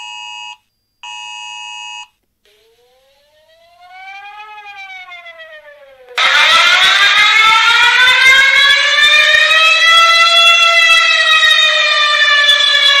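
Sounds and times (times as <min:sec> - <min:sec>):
rising and falling siren: 0:02.5 - 0:13.0.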